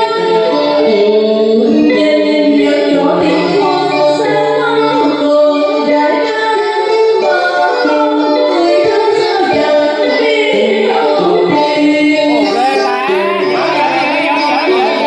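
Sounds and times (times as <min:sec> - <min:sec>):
electric guitar accompaniment: 0:00.0 - 0:15.0
woman singing through microphone: 0:00.0 - 0:15.0.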